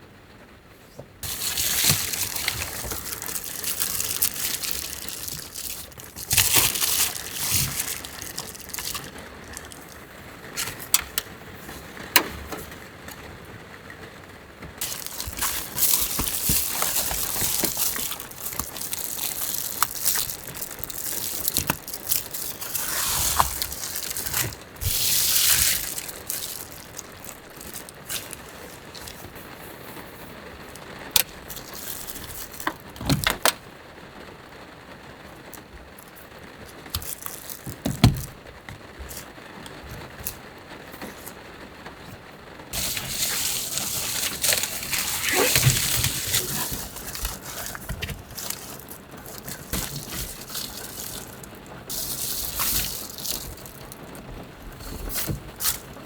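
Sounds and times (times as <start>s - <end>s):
rustling and crinkling: 0.8s - 56.0s.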